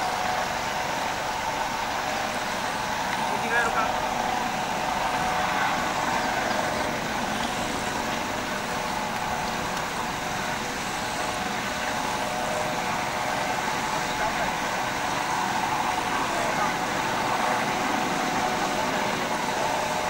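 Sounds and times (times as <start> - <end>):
helicopter engine whine: 0.0 - 20.0.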